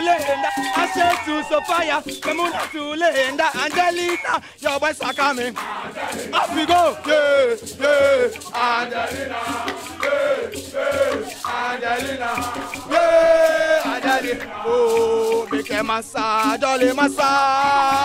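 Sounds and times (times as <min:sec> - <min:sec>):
football supporters chanting: 0:00.0 - 0:03.3, 0:05.0 - 0:18.0.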